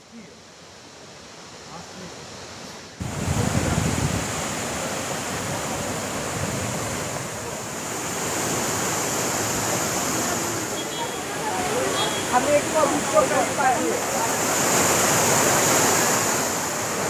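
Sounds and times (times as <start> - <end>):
waterfall rushing: 0.3 - 17.0.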